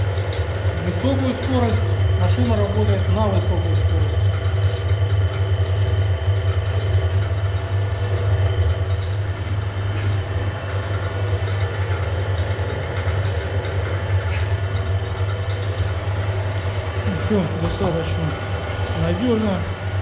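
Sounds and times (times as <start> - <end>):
dough mixer humming: 0.0 - 20.0.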